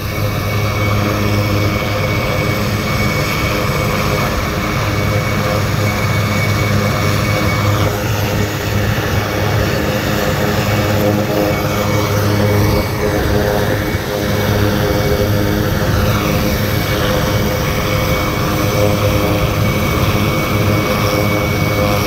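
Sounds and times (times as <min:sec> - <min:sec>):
helicopter turbine and rotor hum: 0:00.0 - 0:22.0
high whine: 0:00.0 - 0:22.0.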